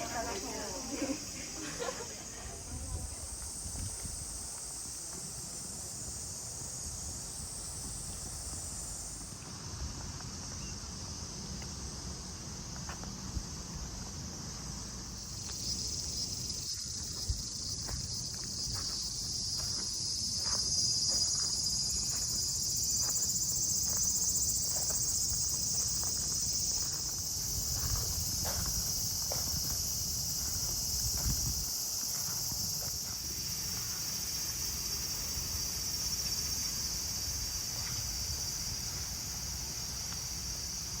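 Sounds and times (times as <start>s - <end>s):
insects buzzing: 0.0s - 41.0s.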